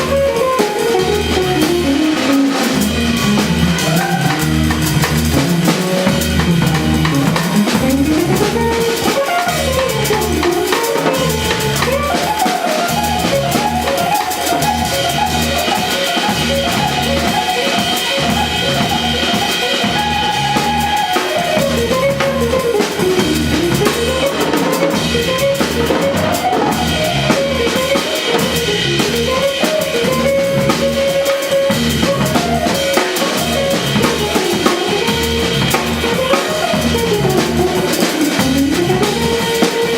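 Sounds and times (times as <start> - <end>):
bass: 0.0 - 39.9
drum kit beat: 0.0 - 39.9
jazz trio music: 0.0 - 39.9.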